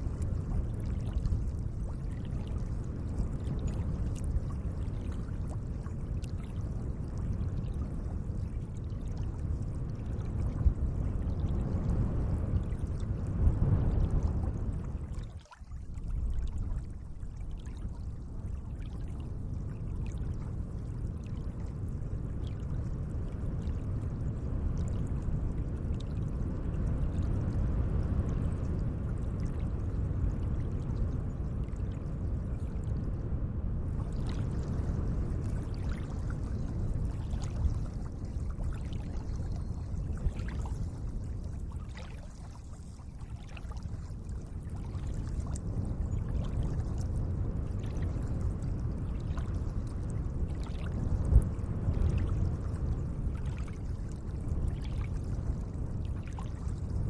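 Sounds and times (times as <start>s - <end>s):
gentle lake water washing: 0.0s - 33.2s, 33.9s - 57.0s.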